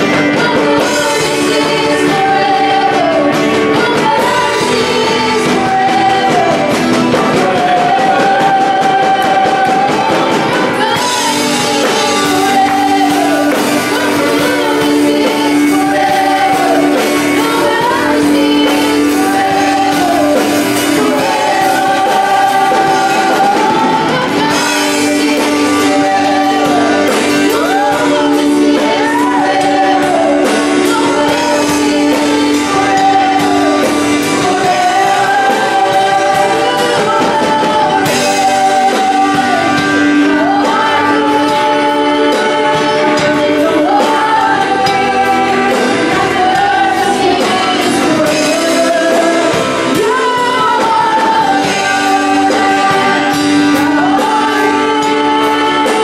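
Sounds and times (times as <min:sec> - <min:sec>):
drums: 0:00.0 - 0:56.0
guitars: 0:00.0 - 0:56.0
keyboard: 0:00.0 - 0:56.0
people singing: 0:00.0 - 0:56.0.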